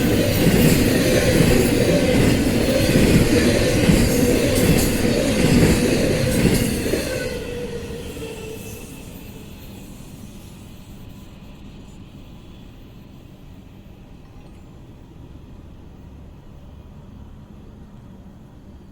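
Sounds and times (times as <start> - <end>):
freight train rolling on rails: 0.0 - 18.8.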